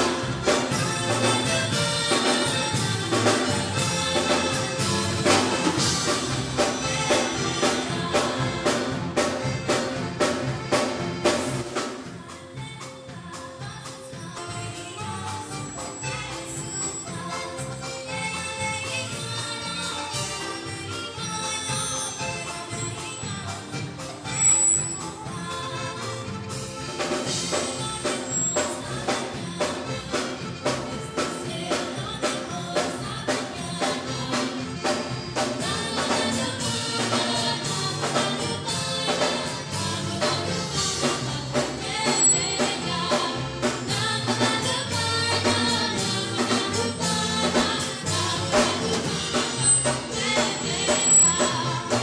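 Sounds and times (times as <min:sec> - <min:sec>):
live band with singing: 0:00.0 - 0:52.0.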